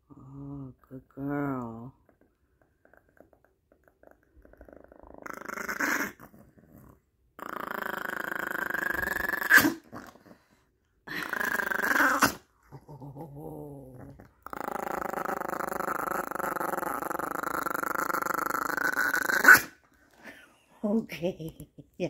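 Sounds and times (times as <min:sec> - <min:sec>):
small dog growling: 0:00.0 - 0:20.4.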